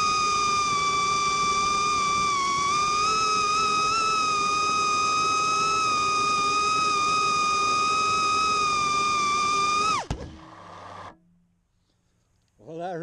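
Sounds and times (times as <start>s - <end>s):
quadcopter motors whining: 0.0s - 11.2s.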